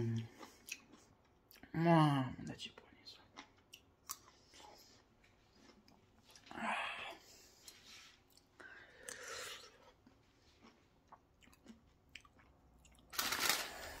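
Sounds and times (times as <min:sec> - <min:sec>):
person chewing: 0:00.0 - 0:01.7, 0:03.2 - 0:06.5, 0:07.3 - 0:14.0.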